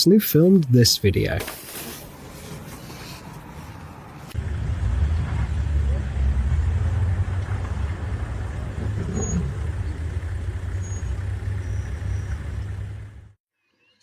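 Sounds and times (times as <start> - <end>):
motor vehicle rumbling: 1.7 - 13.4.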